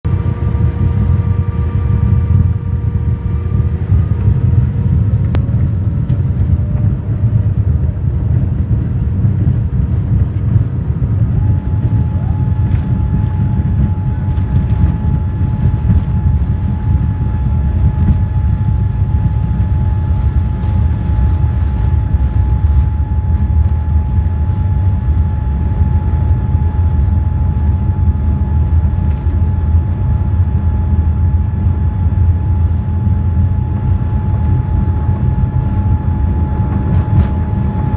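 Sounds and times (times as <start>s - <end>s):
jet engines rumbling in cabin: 0.0s - 37.9s.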